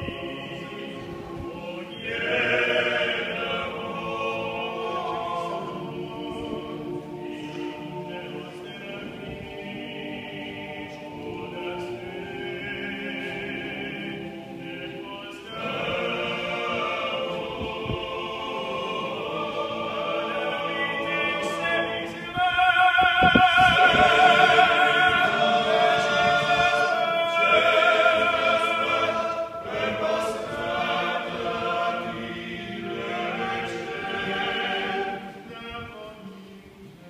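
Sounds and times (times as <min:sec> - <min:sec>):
male choir singing in harmony: 0:00.0 - 0:37.0.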